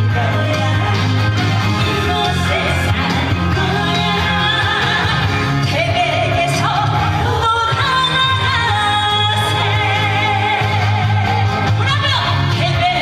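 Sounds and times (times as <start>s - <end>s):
woman singing: 0.0s - 1.2s, 1.8s - 13.0s
amplified backing music: 0.0s - 13.0s.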